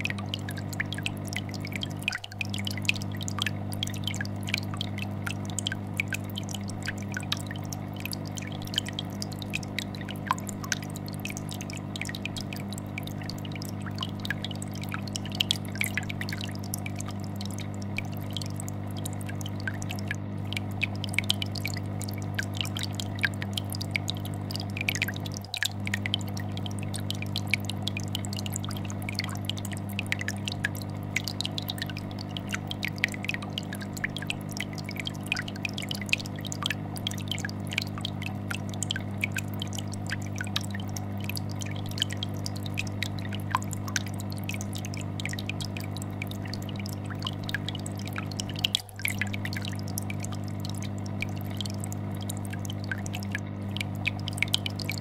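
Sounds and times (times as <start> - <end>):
aquarium filter humming: 0.0 - 55.0
small bubbles popping: 0.0 - 55.0.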